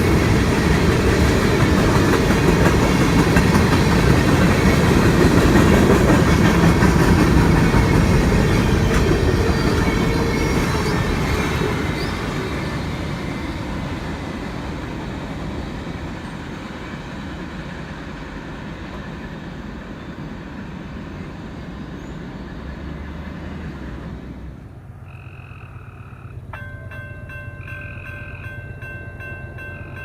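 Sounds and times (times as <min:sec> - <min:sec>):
train rumbling on rails: 0:00.0 - 0:25.0, 0:26.1 - 0:30.0.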